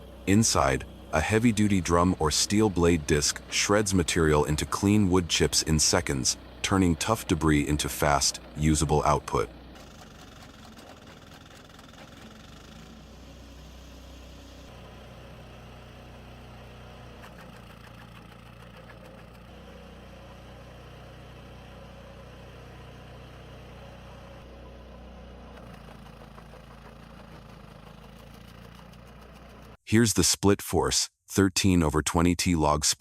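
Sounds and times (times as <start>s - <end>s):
wood chipper diesel engine: 0.0s - 29.8s.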